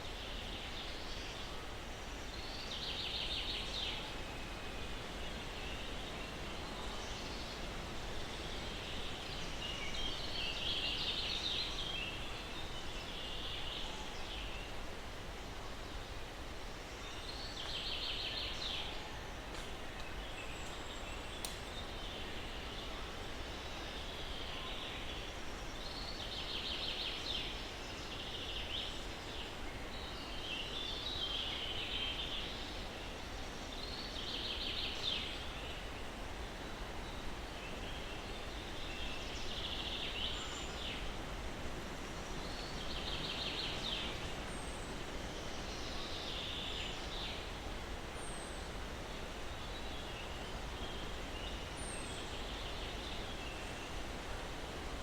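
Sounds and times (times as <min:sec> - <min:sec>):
breeze in pine trees: 0:00.0 - 0:55.0.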